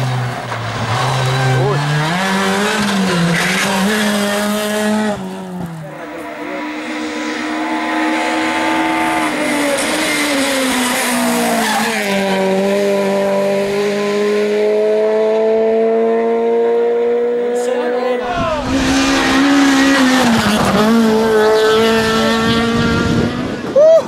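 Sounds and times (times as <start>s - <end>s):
rally car engine at high revs: 0.0s - 23.8s.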